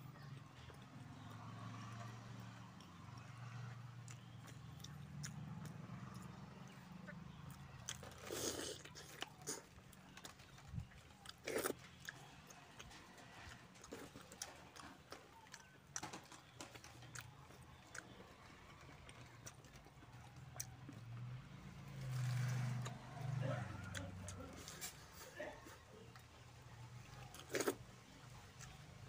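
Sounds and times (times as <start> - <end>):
man chewing food: 0.0 - 29.0.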